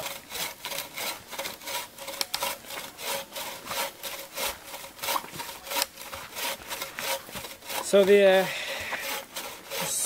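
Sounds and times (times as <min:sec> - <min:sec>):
hand saw cutting wood: 0:00.0 - 0:10.0.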